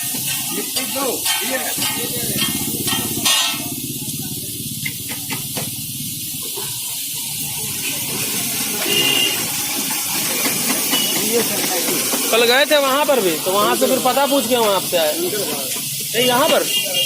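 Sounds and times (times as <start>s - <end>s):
cooking hissing and sizzling: 0.0s - 17.0s.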